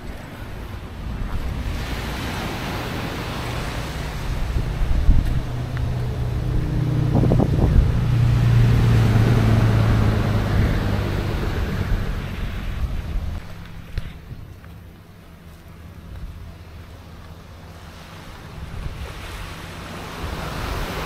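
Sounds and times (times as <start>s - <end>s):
wind on microphone: 0.0s - 14.6s, 18.3s - 21.0s
surf on the shore: 0.0s - 21.0s
vehicle engine drone: 0.0s - 21.0s.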